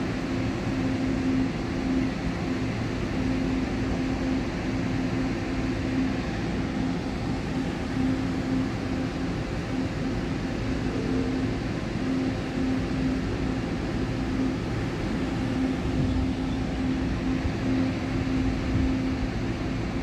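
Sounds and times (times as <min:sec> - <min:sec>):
electric train humming: 0:00.0 - 0:20.0.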